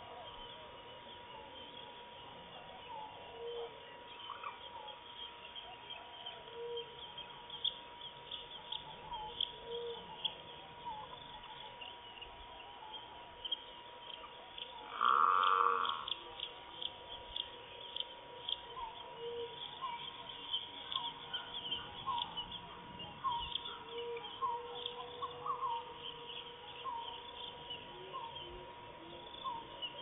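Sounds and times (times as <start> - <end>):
birds chirping: 0.0 - 30.0
faint steady whine: 0.0 - 30.0.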